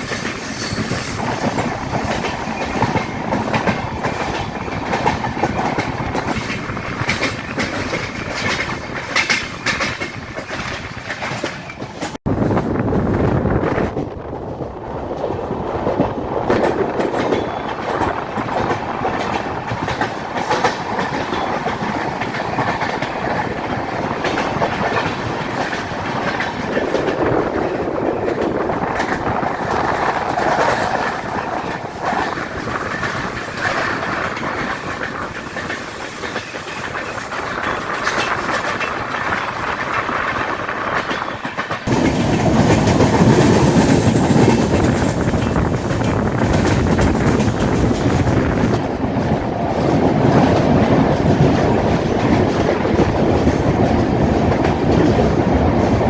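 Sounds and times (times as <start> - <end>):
train wheels clacking on rails: 0.0 - 56.0.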